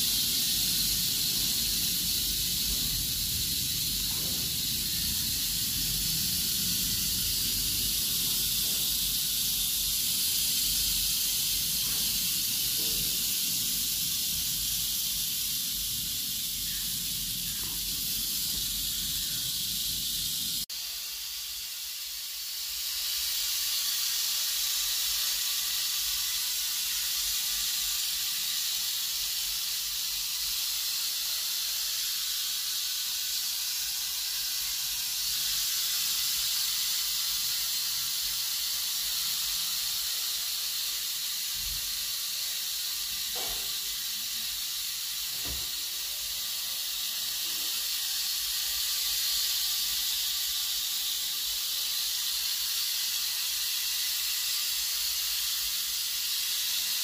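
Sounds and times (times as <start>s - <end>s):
rattlesnake tail rattle buzzing: 0.0s - 57.0s.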